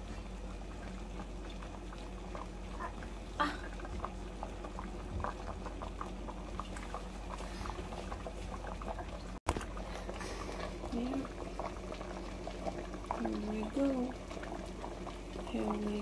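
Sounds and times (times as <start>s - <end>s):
soup boiling with bubbling pops: 0.0s - 16.0s.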